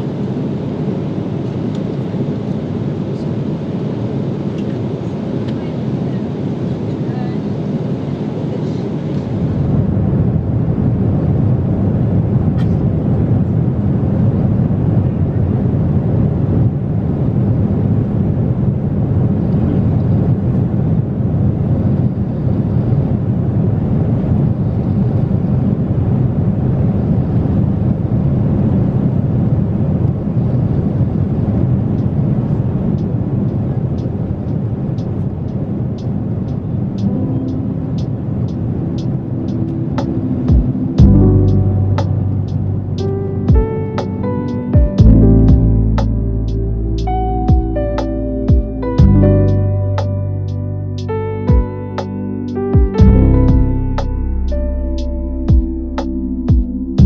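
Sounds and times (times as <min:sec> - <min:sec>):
airplane cabin roar: 0:00.0 - 0:57.0.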